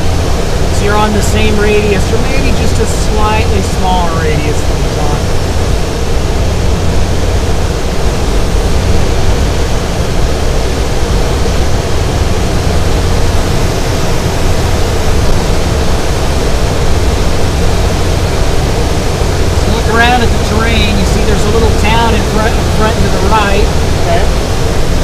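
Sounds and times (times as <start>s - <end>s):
faint steady hum: 0.0s - 25.0s
rushing airflow: 0.0s - 25.0s.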